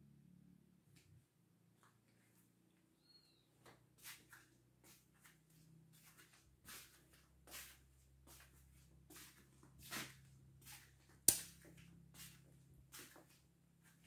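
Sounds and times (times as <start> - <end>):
soft footsteps: 1.8 - 2.9, 3.5 - 14.0.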